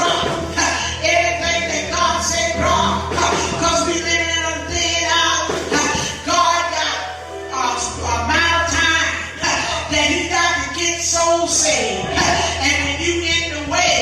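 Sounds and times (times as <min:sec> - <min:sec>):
gospel singing with band: 0:00.0 - 0:14.0
steady bass: 0:00.0 - 0:14.0.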